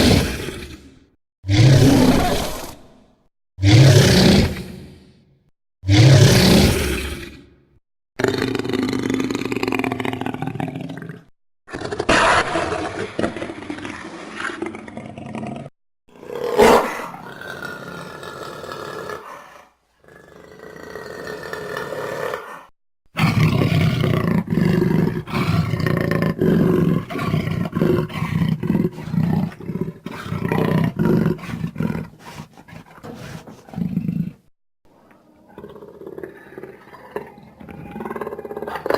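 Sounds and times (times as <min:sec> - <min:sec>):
dinosaur roars and calls: 0:00.0 - 0:03.0, 0:08.2 - 0:34.5, 0:35.4 - 0:38.9.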